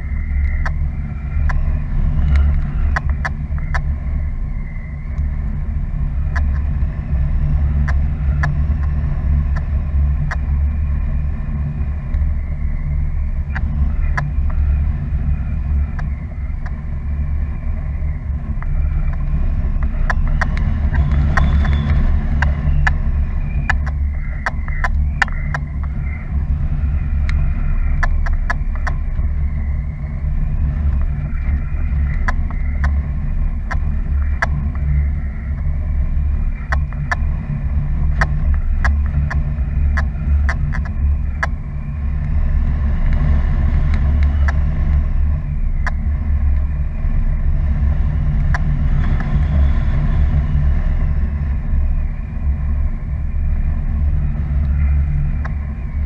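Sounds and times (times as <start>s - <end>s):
sharp ticks: 0.0s - 56.0s
wind buffeting microphone: 0.0s - 56.0s.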